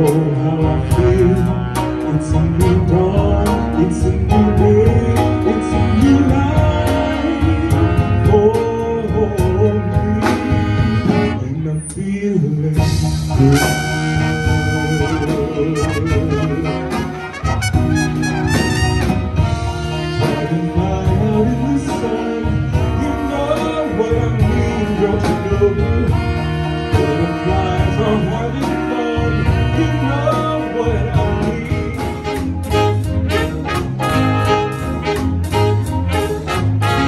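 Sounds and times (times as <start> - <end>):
man singing: 0.0 - 19.0, 19.6 - 37.0
big band playing: 0.0 - 37.0.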